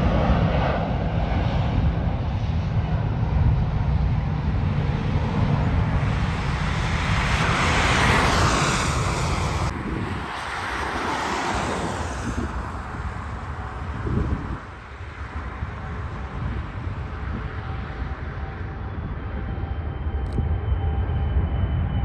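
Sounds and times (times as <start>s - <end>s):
jet airliner engines roaring: 0.0s - 22.0s.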